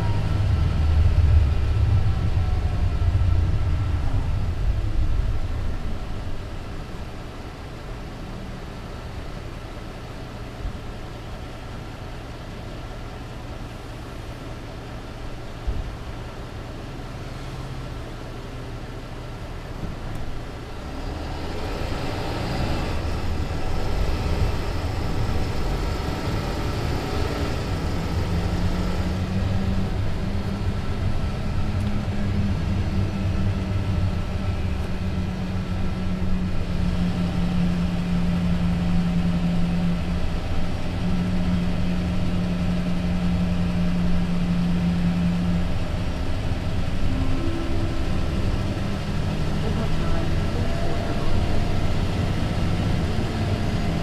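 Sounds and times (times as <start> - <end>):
bus engine accelerating: 0.0 - 54.0.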